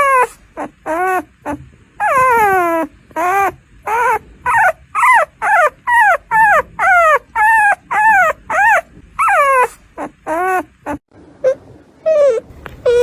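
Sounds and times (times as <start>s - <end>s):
puppy squealing cries: 0.0s - 13.0s.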